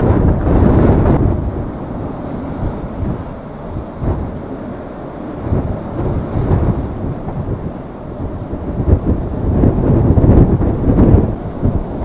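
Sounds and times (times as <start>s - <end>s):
waves washing across road: 0.0s - 12.0s
wind buffeting microphone: 0.0s - 12.0s.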